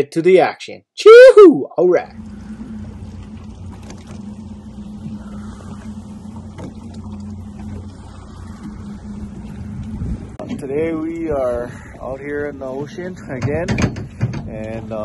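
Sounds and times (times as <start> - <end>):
boat engine running: 1.9 - 15.0.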